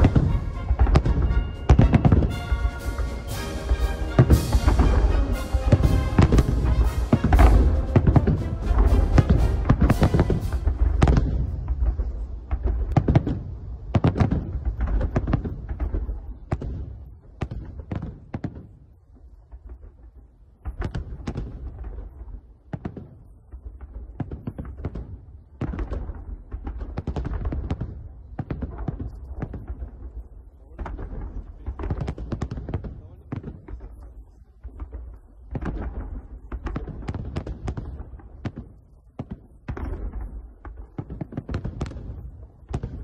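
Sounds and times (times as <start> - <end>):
fireworks bursting booms: 0.0 - 43.0.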